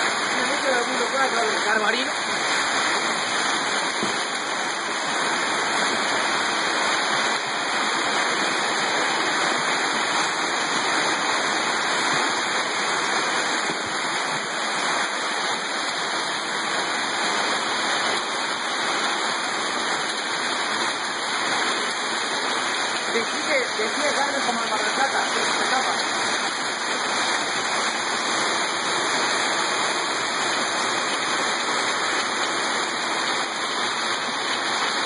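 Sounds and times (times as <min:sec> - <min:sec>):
rain and hail pelting surfaces: 0:00.0 - 0:35.0.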